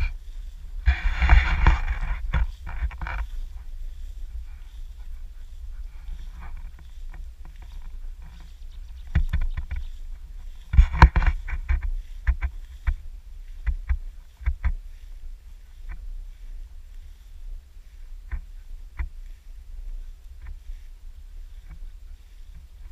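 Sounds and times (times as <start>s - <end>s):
grass swishing against walker: 0.0s - 22.9s
low microphone rumble: 0.0s - 22.9s.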